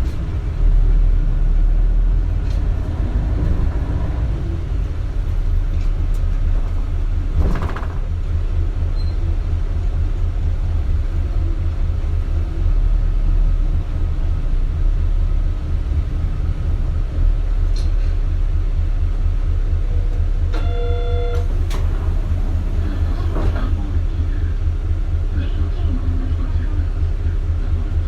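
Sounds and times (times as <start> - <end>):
bus diesel engine rumbling: 0.0 - 28.0.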